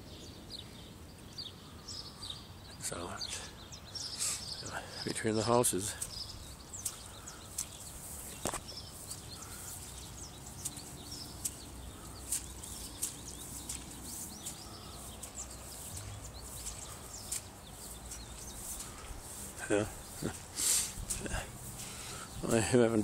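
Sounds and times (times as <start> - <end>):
low outdoor background: 0.0 - 23.0
small birds chirping: 0.0 - 23.0.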